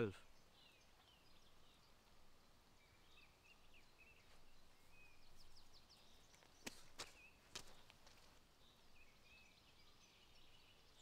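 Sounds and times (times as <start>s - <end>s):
faint bird chirps: 0.0s - 7.9s, 8.6s - 11.0s.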